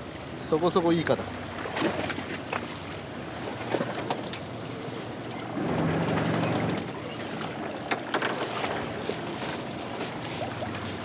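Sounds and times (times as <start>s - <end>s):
sea noise: 0.0s - 11.0s.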